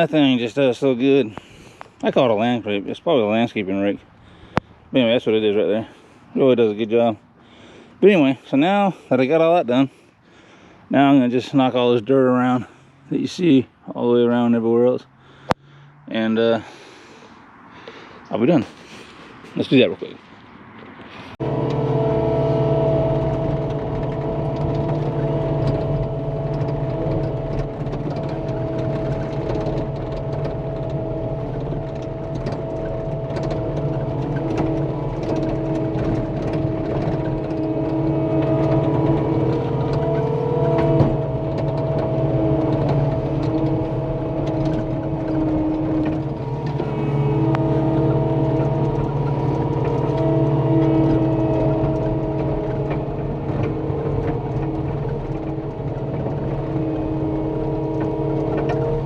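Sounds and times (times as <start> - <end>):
track loader engine droning: 0.0 - 59.0.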